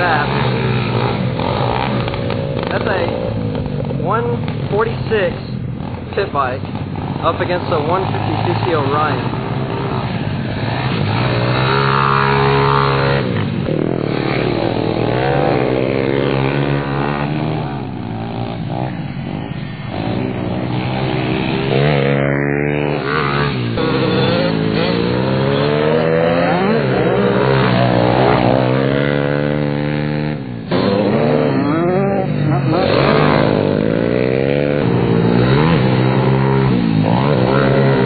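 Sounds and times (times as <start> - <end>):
pit bike engines revving: 0.0 - 38.0.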